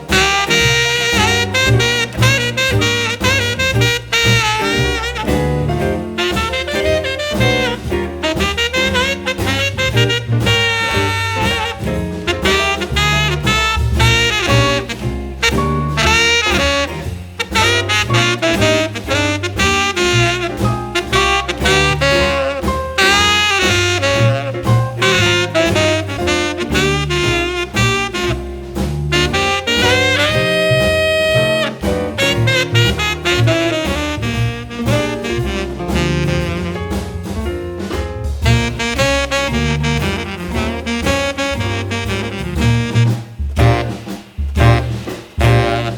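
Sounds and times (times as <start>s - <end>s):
saxophone melody: 0.0s - 37.2s, 38.4s - 45.9s
jazz music: 0.0s - 45.9s
walking bass: 0.0s - 45.9s.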